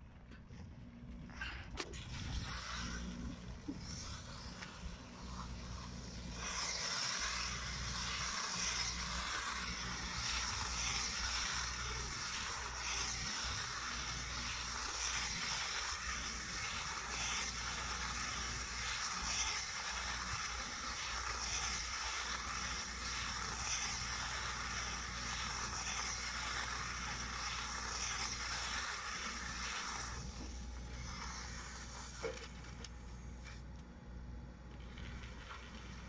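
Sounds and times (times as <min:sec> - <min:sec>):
baler-wrapper hissing: 0:01.2 - 0:33.7, 0:34.6 - 0:36.0.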